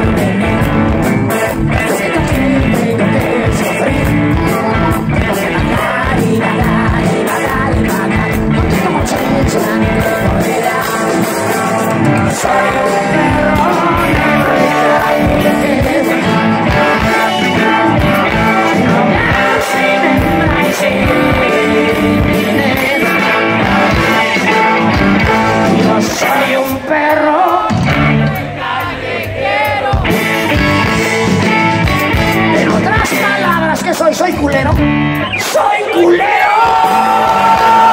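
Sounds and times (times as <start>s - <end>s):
person singing: 0.0s - 28.8s, 29.9s - 34.8s
rock band playing live: 0.0s - 37.9s.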